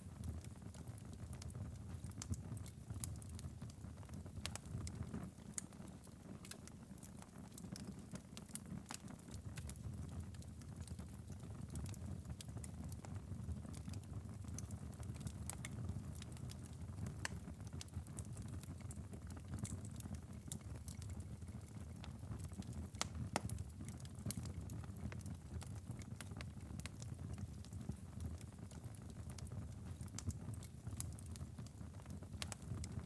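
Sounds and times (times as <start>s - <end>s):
wood fire crackling: 0.1s - 33.0s.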